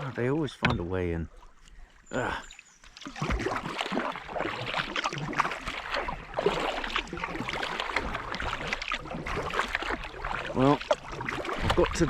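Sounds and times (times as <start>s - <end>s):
paddle splashing and dripping: 0.0s - 12.0s
water slapping along hull: 0.0s - 12.0s.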